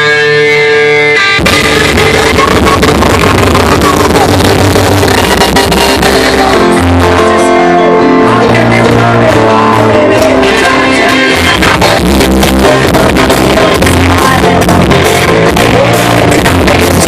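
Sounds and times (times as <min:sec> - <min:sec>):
loud live rock band: 0:00.0 - 0:17.0.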